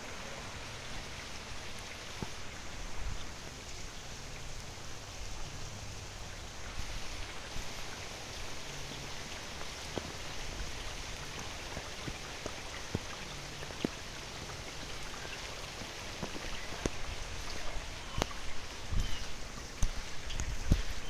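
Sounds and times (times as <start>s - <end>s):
raindrops tapping: 0.0s - 4.8s, 7.1s - 21.0s
steady rain falling: 0.0s - 21.0s.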